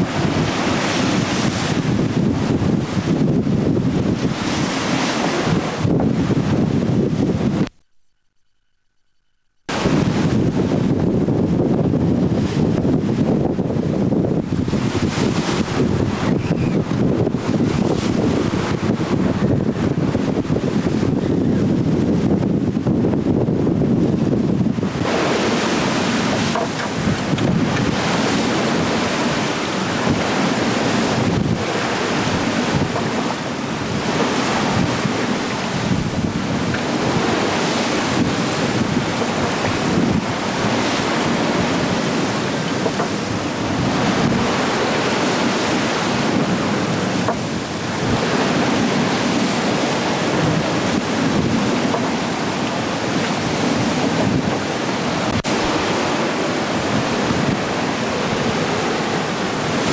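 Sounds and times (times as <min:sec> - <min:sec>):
wind buffeting microphone: 0:00.0 - 0:07.8, 0:09.7 - 0:59.9
sea rushing along ship hull: 0:00.0 - 0:07.9, 0:09.7 - 0:59.9.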